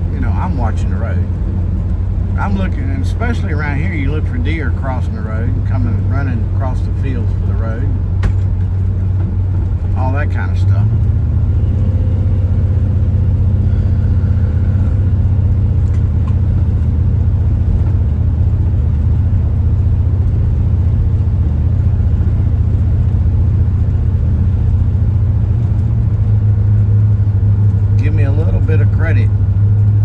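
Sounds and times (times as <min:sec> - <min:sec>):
motorhome engine and road noise: 0:00.0 - 0:30.0.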